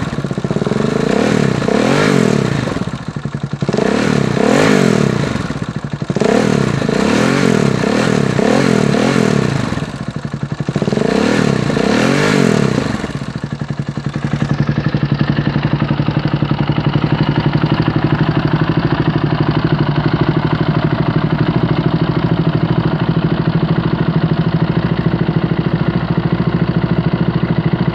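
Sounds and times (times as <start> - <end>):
motorcycle engine revving and idling: 0.0 - 27.9.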